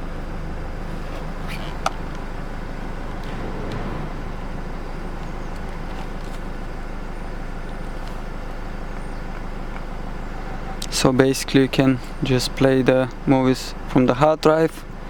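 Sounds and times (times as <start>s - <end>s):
vehicle cabin hum and hiss: 0.0s - 15.0s.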